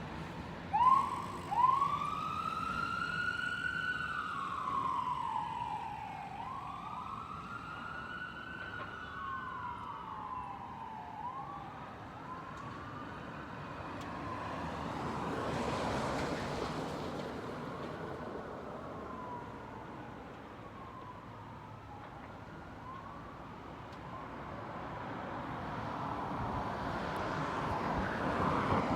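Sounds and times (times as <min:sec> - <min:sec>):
traffic noise: 0:00.0 - 0:28.9
fire engine siren wailing: 0:00.3 - 0:28.9.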